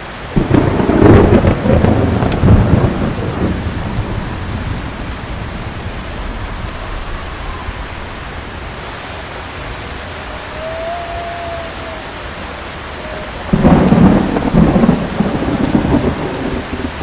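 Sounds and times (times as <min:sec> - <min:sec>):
heavy rain: 0:00.0 - 0:17.0
rolling thunder: 0:00.3 - 0:10.0, 0:10.6 - 0:17.0.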